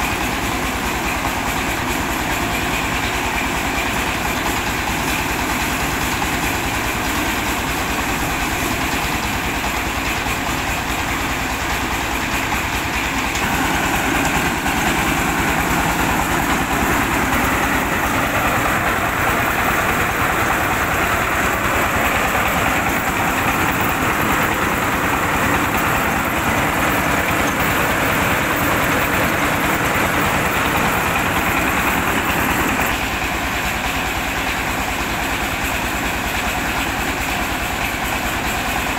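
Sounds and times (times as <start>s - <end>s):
diesel engine running: 0.0s - 38.9s
grain rattling through milling machine: 0.0s - 38.9s.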